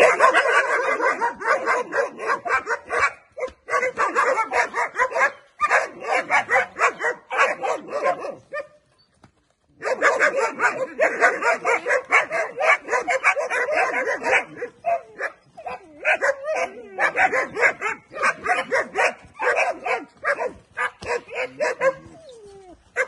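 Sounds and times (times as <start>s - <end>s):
puppies yapping and barking: 0.0s - 23.0s.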